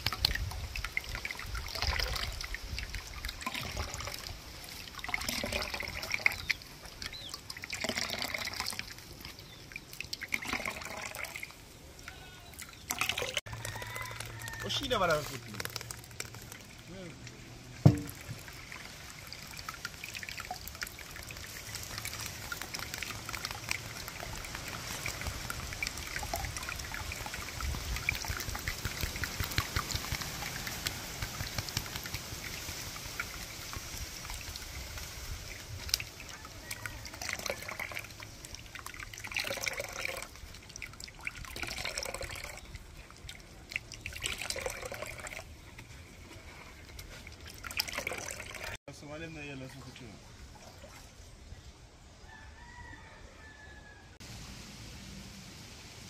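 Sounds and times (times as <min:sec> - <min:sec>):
juice pouring through strainer: 0:00.1 - 0:48.8.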